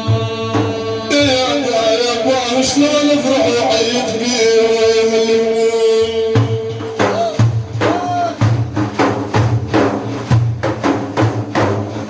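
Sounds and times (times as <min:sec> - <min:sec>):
percussion beat with low thuds: 0:00.0 - 0:12.0.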